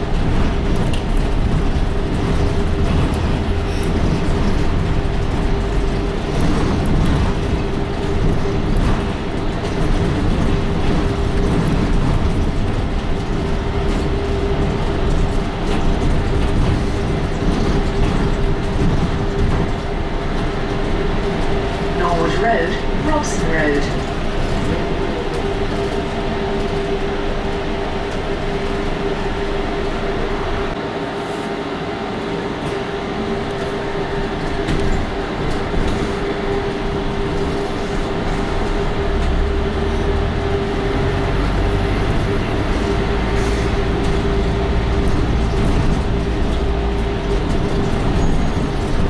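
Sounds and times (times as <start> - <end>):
deep engine rumble: 0.0 - 31.0, 31.6 - 49.0
bus drivetrain whine: 0.0 - 49.0
road and cabin noise: 0.0 - 49.0.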